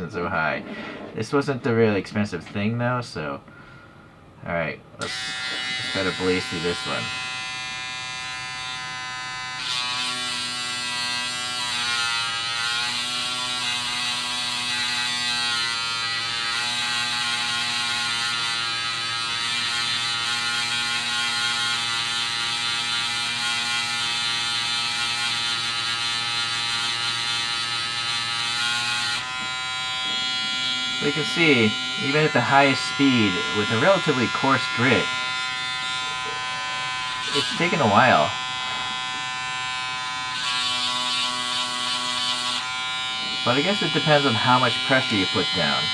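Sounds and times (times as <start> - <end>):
electric sander buzzing: 5.0 - 45.9.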